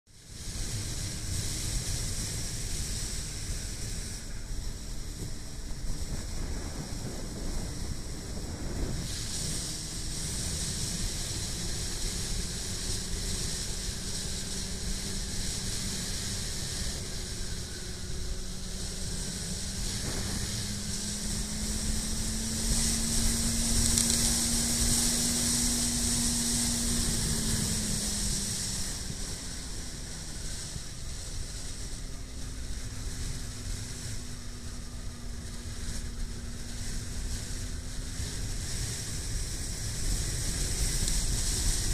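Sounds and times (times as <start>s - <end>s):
motorcycle engine running: 0.1s - 41.9s
wind rush on microphone: 0.2s - 41.9s.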